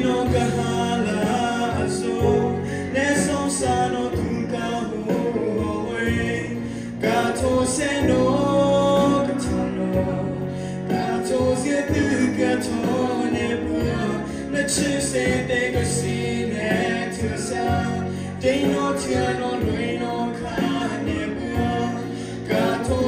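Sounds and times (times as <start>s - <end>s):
instrumental accompaniment: 0.0s - 23.0s
man singing into a microphone: 0.0s - 23.0s.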